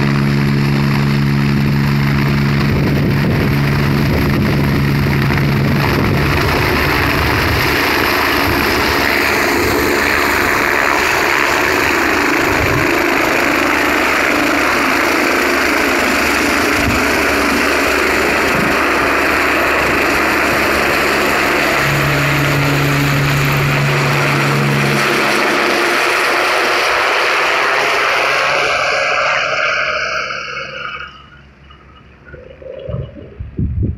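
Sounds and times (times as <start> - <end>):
helicopter taking off: 0.0 - 33.9.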